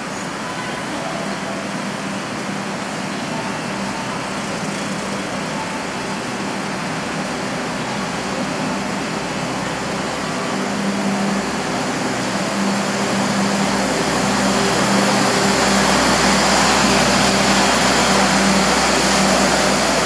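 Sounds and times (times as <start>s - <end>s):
vehicle running noise: 0.0s - 20.0s.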